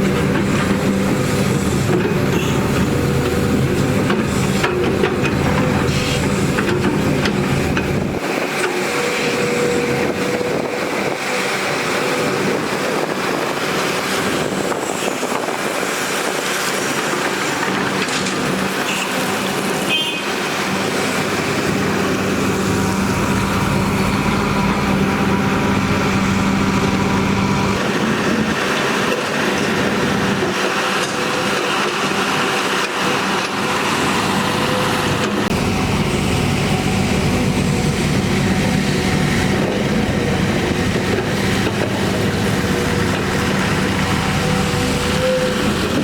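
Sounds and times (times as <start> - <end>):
heavy machinery diesel engines: 0.0 - 46.0.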